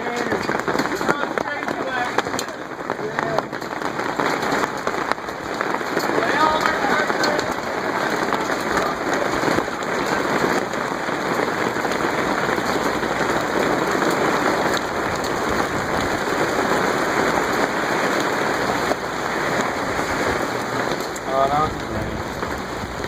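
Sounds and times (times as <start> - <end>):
heavy rain downpour: 0.0 - 23.0.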